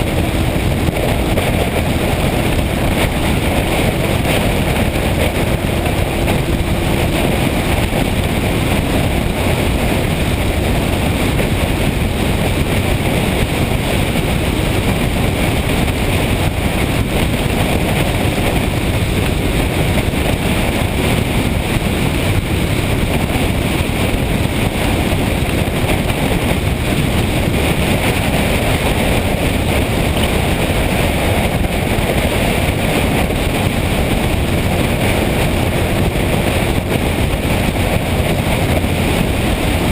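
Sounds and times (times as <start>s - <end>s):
motorcycle engine and road noise: 0.0s - 39.9s
wind rush on microphone: 0.0s - 39.9s.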